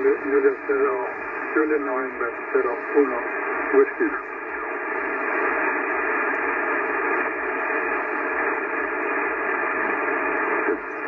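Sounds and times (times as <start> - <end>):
radio receiver hiss: 0.0 - 11.0.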